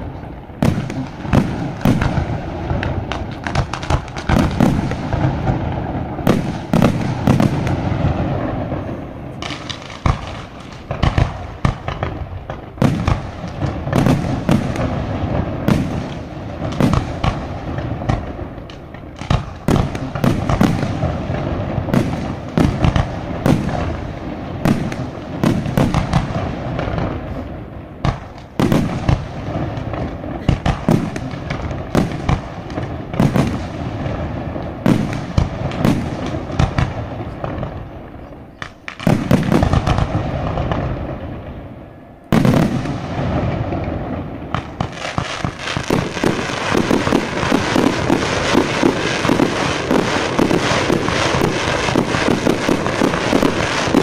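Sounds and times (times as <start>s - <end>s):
fireworks bangs and bursts: 0.0s - 54.0s.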